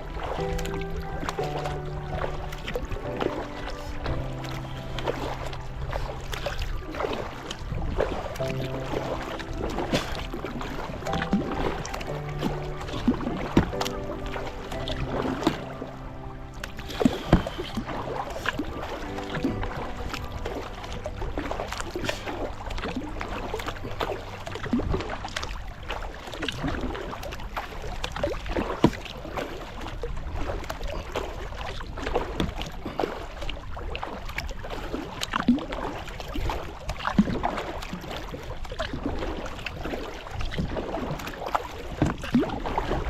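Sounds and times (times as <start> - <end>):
paddle splashing in water: 0.0 - 43.0
water washing along hull: 0.0 - 43.0.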